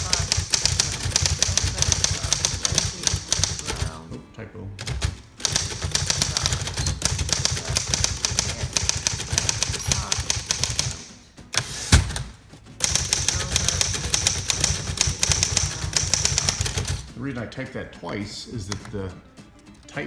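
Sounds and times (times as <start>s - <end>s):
rapid typewriter typing: 0.0s - 4.0s, 4.8s - 17.2s
typewriter carriage return clack: 0.0s - 4.0s, 4.8s - 17.1s.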